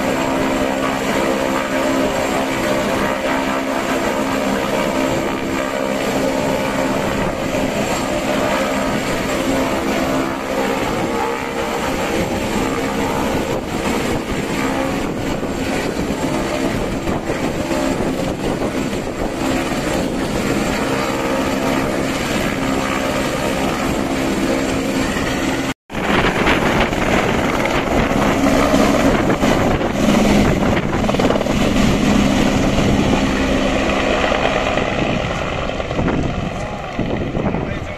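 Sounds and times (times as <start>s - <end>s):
helicopter turbine and rotor: 0.0s - 37.9s.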